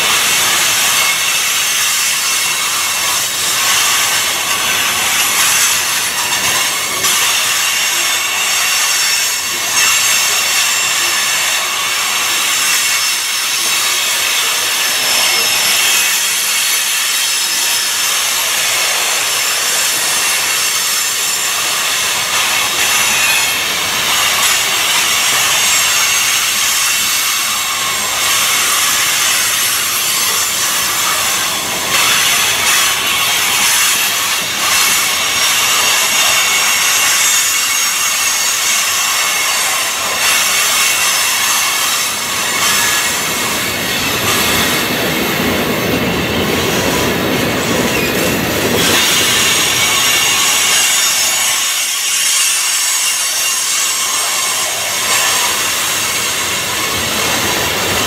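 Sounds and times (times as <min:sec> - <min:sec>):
freight train rolling past: 0:00.0 - 0:58.0
steel wheels hissing on rail: 0:00.0 - 0:58.0.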